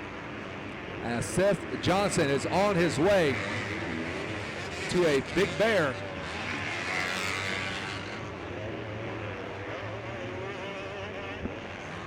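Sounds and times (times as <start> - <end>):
motocross bike engines: 0.0 - 12.0.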